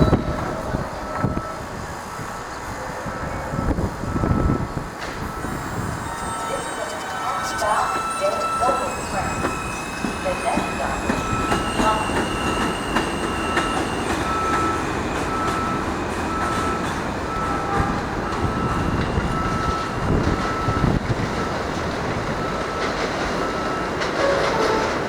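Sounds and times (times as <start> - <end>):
subway train rumbling on track: 0.0 - 25.0.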